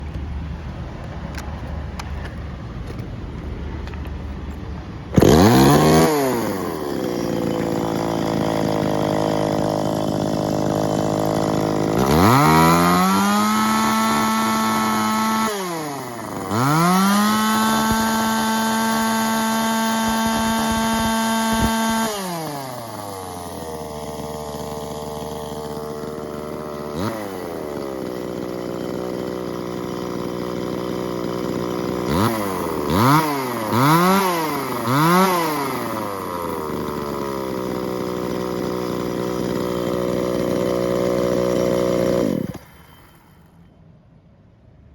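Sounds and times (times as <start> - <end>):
two-stroke chainsaw engine revving: 5.1 - 43.5.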